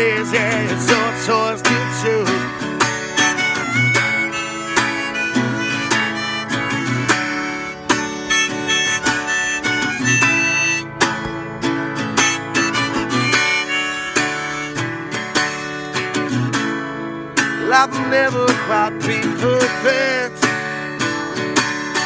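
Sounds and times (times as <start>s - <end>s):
harmonica melody: 0.0s - 22.0s
strummed acoustic guitar: 0.0s - 22.0s.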